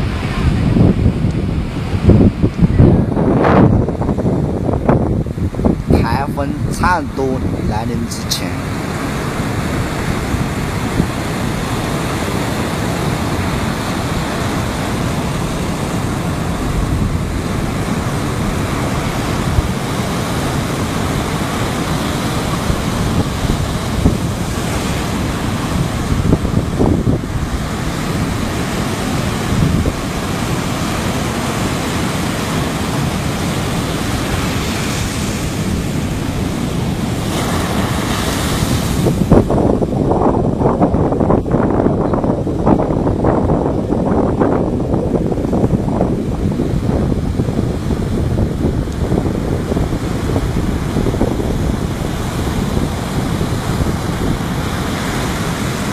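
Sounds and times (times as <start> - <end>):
waves washing on beach: 0.0 - 55.9
wind gusting on microphone: 0.0 - 55.9.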